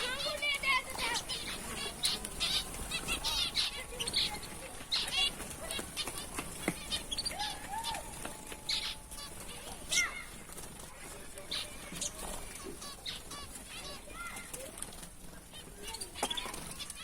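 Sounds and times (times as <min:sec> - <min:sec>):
small birds chirping: 0:00.0 - 0:17.0
wings fluttering: 0:00.0 - 0:17.0.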